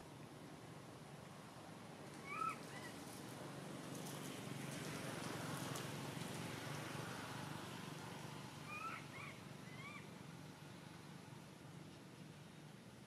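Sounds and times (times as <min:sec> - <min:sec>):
faint forest background: 0:00.0 - 0:13.0.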